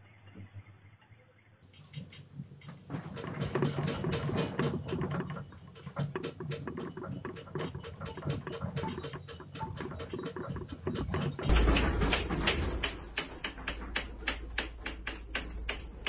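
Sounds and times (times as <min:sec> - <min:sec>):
household objects rattling: 0:02.6 - 0:16.0.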